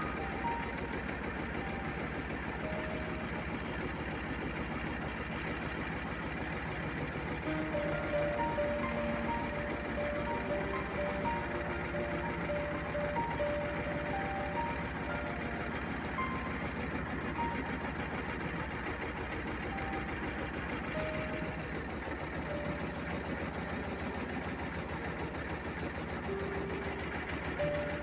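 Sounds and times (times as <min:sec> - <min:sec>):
tractor diesel engine chugging: 0:00.0 - 0:28.0.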